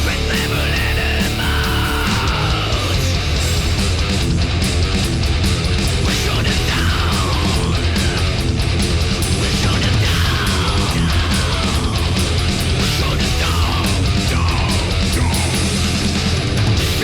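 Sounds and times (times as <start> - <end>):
heavy rock music: 0.0 - 17.0.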